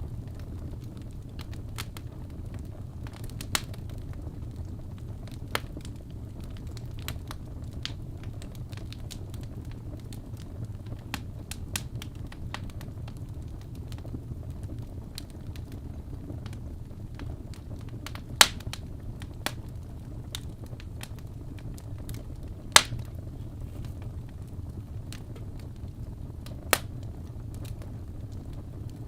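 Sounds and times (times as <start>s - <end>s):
logs crackling and popping: 0.0s - 29.0s
low rumble of flames: 0.0s - 29.0s.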